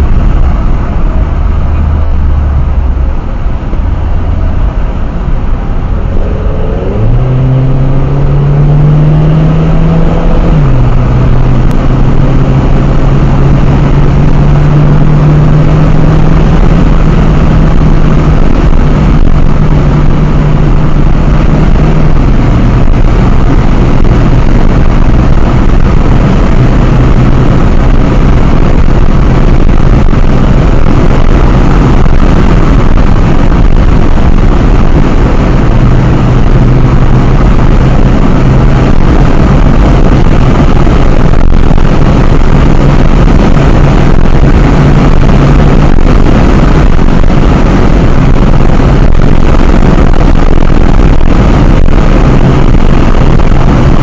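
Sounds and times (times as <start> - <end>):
car engine revving: 0.0 - 54.0
road and wind roar: 0.0 - 54.0.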